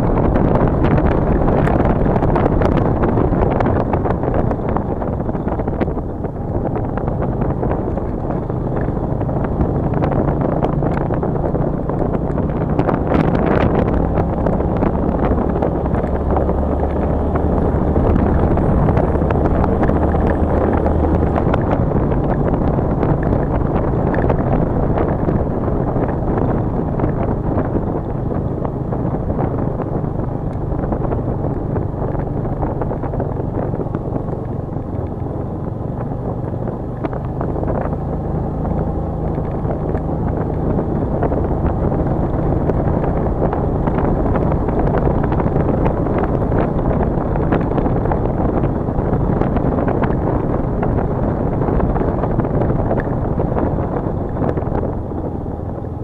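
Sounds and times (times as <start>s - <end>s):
vehicle engine running: 0.0s - 56.0s
wind buffeting microphone: 0.0s - 56.0s.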